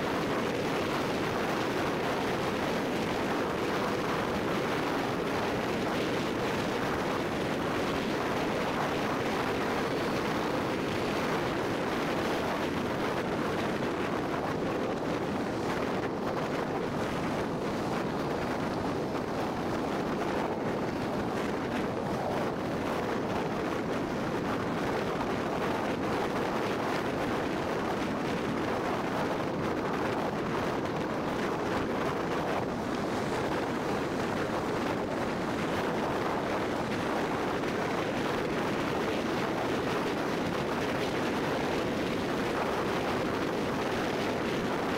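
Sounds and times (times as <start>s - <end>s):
car road and wind noise: 0.0s - 44.9s.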